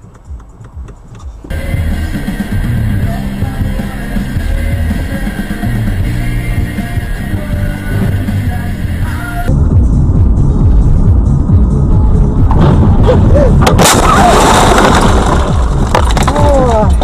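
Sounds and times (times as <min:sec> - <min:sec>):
rock music with drums and bass: 0:01.5 - 0:17.0.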